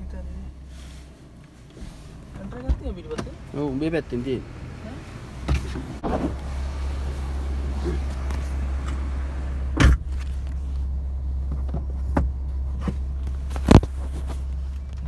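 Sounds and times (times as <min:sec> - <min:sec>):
low hum inside car: 0:00.0 - 0:15.0.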